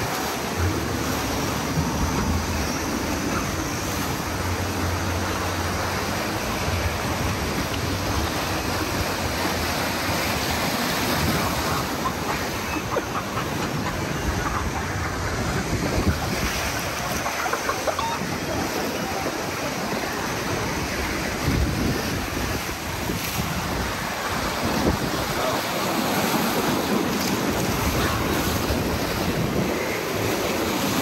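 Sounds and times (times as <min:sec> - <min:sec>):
rushing white water: 0:00.0 - 0:31.0.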